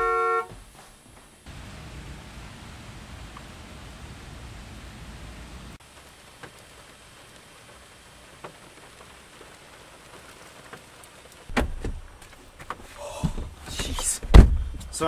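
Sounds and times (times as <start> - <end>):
raindrops ticking on roof: 1.4 - 14.2
rain on a car: 1.4 - 15.0.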